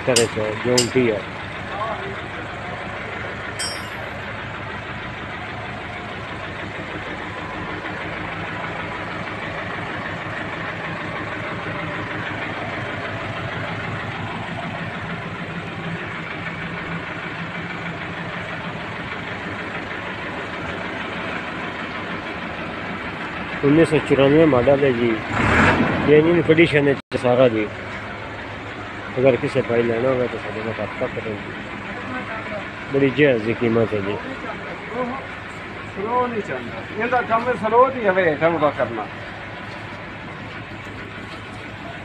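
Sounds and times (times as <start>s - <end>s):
tractor diesel engine idling: 0.0s - 25.3s, 26.2s - 42.0s.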